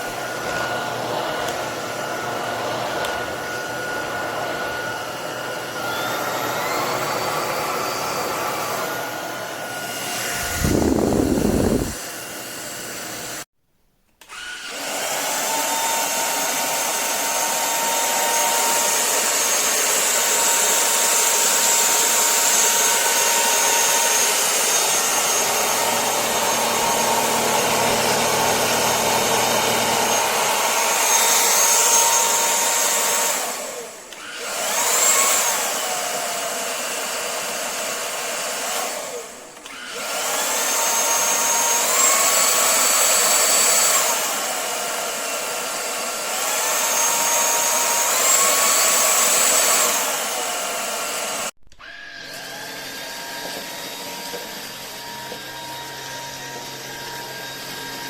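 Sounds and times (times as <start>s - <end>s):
vacuum motor whining: 0.0s - 13.4s, 14.2s - 58.0s.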